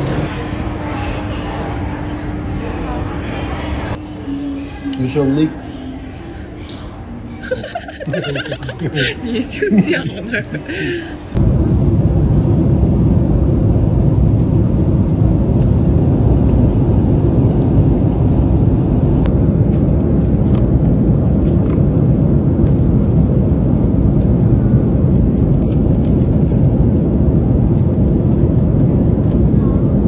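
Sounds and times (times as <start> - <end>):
jet engines and airflow in cabin: 0.0 - 30.0.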